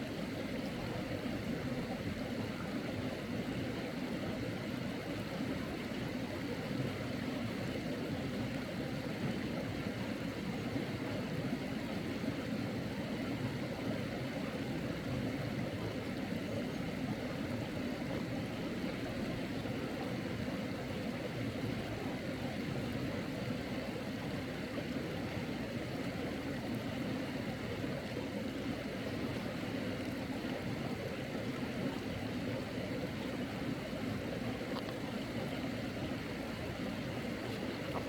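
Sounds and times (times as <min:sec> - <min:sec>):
water flowing in a stream: 0:00.0 - 0:38.0.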